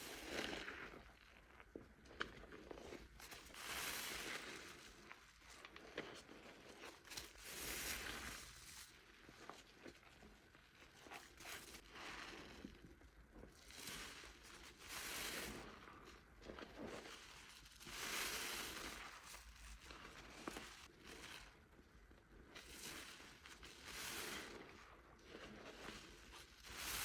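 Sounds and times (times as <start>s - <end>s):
soap foam squishing and crackling: 0.0s - 27.0s.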